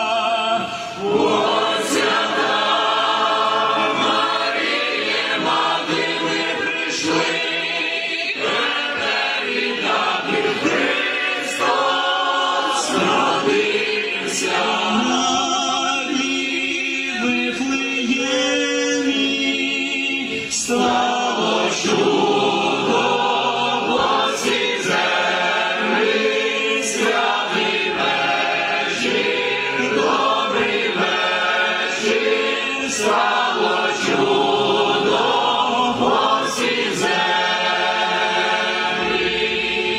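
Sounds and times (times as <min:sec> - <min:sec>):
choir singing a carol: 0:00.0 - 0:39.9.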